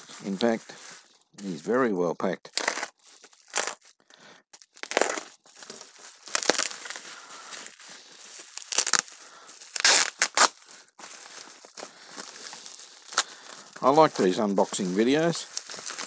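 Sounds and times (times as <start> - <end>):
bubble wrap crinkling: 2.5 - 16.0.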